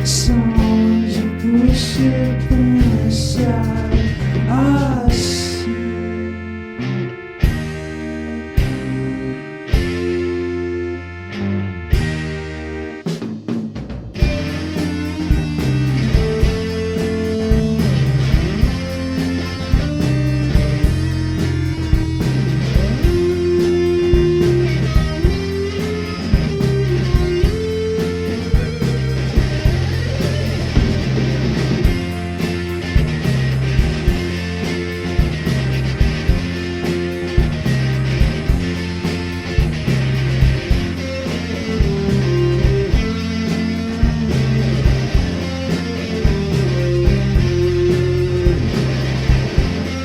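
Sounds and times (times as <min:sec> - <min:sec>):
steady drum beat: 0:00.0 - 0:05.9, 0:07.4 - 0:10.4, 0:11.9 - 0:12.4, 0:13.0 - 0:50.0
electric guitar lead: 0:00.0 - 0:13.2, 0:14.1 - 0:50.0
bass guitar: 0:00.0 - 0:50.0
rock band playing live: 0:00.0 - 0:50.0.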